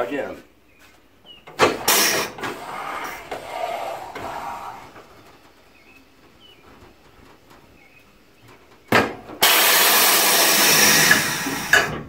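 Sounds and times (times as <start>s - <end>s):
tire changer machine noise: 1.4s - 12.0s.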